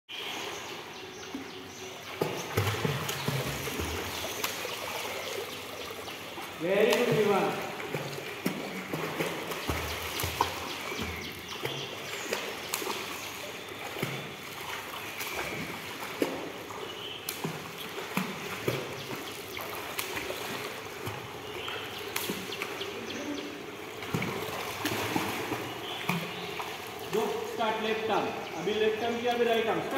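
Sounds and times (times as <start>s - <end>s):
wash of moving water: 0.1s - 29.9s
swimmer splashing in pool: 2.2s - 27.9s.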